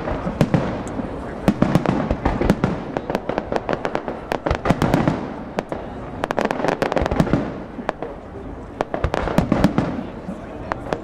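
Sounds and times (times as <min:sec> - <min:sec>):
continuous rumble: 0:00.0 - 0:11.0
fireworks bangs and crackles: 0:00.0 - 0:11.0.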